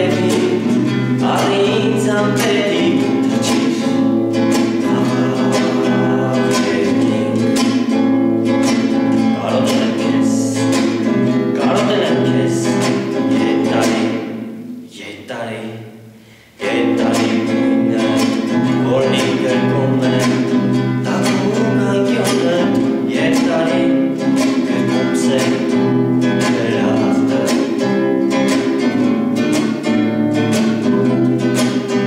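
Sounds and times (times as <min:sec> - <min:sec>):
man singing: 0:00.0 - 0:28.5
strummed classical guitar: 0:00.0 - 0:32.0.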